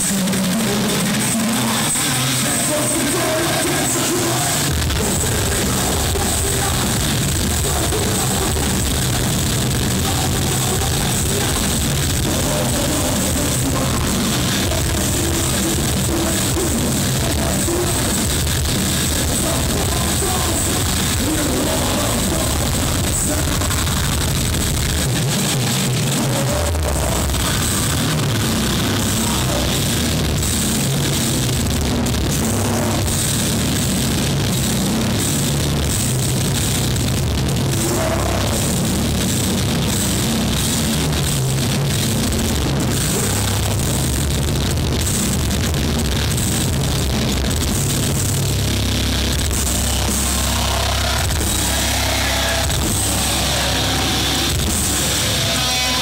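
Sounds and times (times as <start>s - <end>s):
live heavy metal band: 0.0s - 56.0s.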